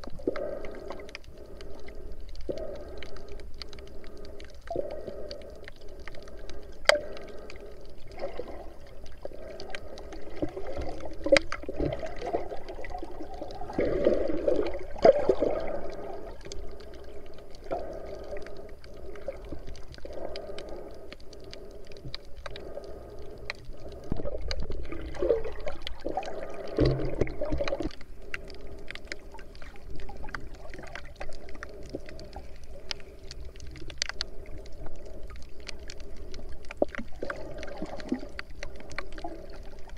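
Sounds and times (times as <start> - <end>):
muffled underwater water movement: 0.0 - 39.9.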